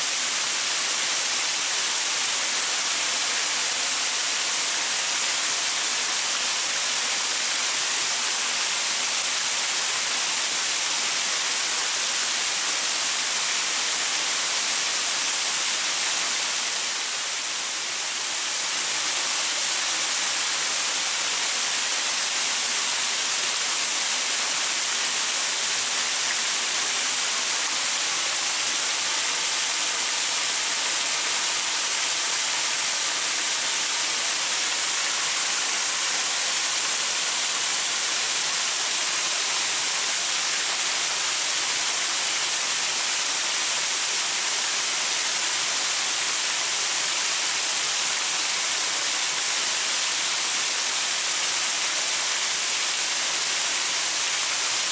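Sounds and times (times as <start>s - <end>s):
waterfall pouring over rocks: 0.0s - 54.9s.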